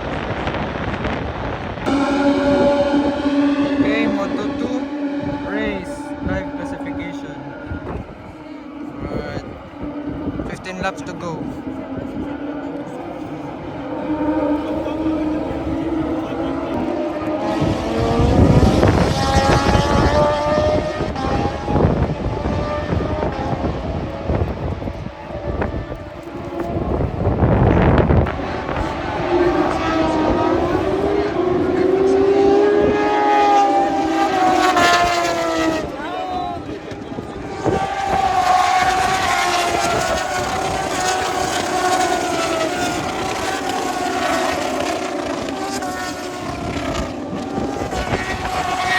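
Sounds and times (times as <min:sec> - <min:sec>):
racing motorcycles at high revs: 0:00.0 - 0:48.9
steady engine rumble: 0:00.0 - 0:48.9.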